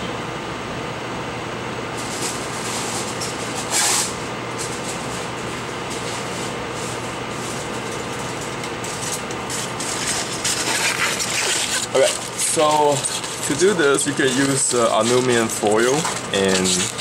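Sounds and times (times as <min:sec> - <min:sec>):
fan whir: 0:00.0 - 0:17.0.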